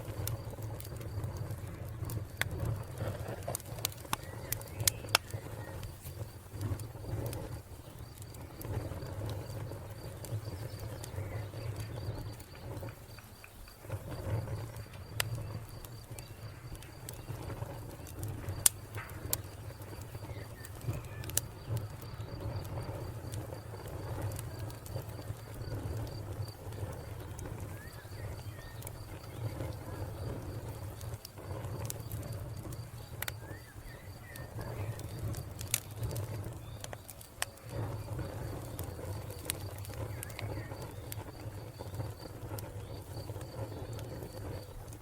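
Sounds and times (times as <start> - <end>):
wood fire crackling: 0.0 - 45.0
cricket chirping: 4.0 - 44.9.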